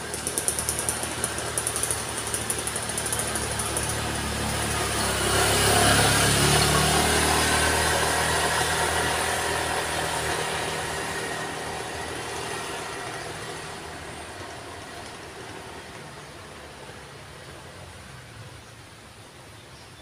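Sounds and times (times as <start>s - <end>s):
vehicle engine passing by: 0.0s - 18.6s.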